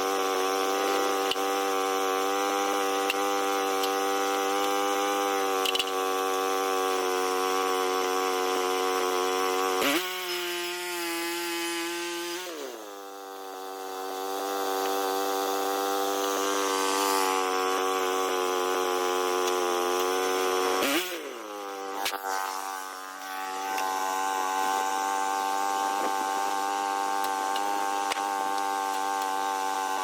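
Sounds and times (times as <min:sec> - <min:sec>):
sawmill sawing log: 0:00.0 - 0:30.0.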